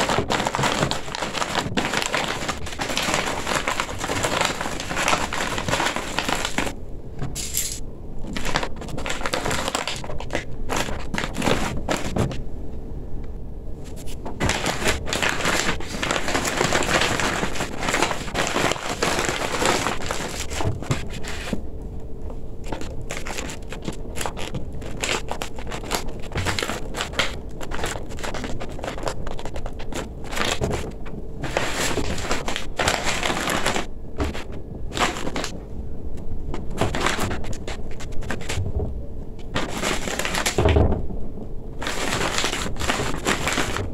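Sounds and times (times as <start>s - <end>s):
fabric rustling and crinkling: 0.0s - 12.4s, 13.8s - 21.7s, 22.3s - 35.7s, 36.4s - 41.1s, 41.7s - 43.9s.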